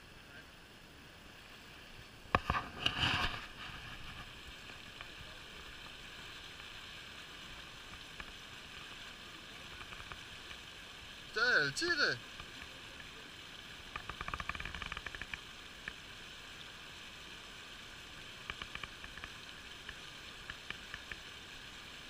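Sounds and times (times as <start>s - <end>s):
stream babbling: 0.0s - 22.0s.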